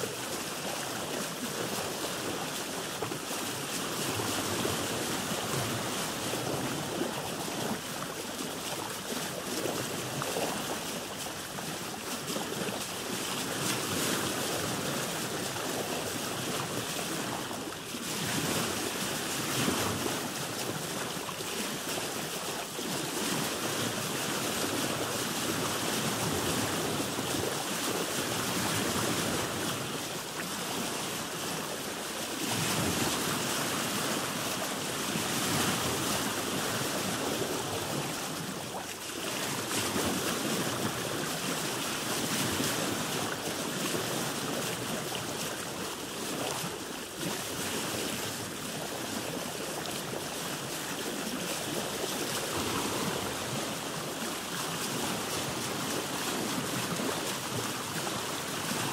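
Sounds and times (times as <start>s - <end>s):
waves washing around boat: 0.0s - 58.9s.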